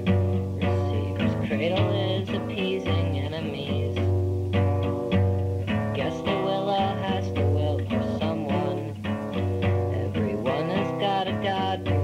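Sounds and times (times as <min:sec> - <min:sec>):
guitar song: 0:00.0 - 0:12.0.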